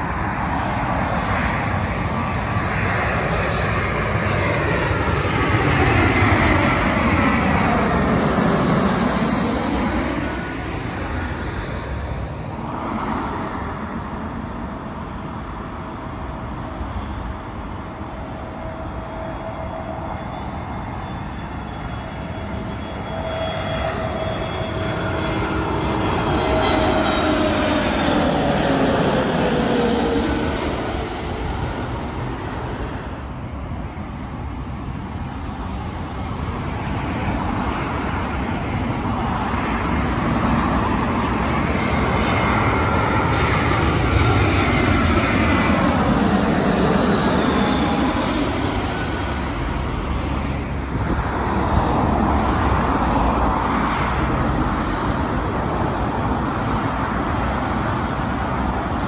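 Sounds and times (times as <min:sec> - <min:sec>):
jet engine whine overhead: 0:00.0 - 0:59.0
road traffic: 0:00.0 - 0:59.0.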